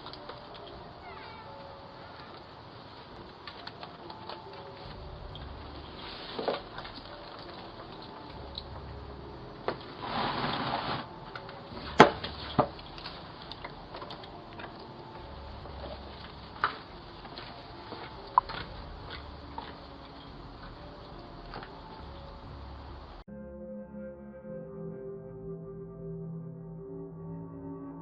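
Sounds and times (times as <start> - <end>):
steady hiss: 0.0 - 23.2.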